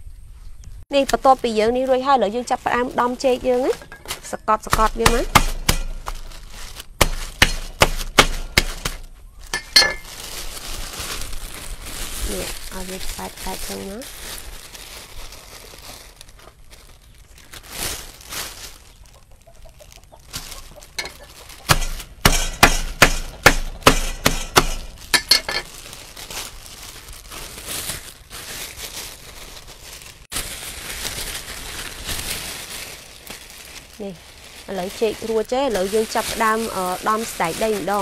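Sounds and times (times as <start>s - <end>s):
plastic bag crinkling: 0.9s - 38.0s.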